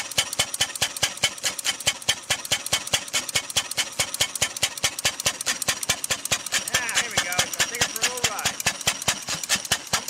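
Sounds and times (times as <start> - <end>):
single-cylinder engine clattering: 0.0 - 10.0.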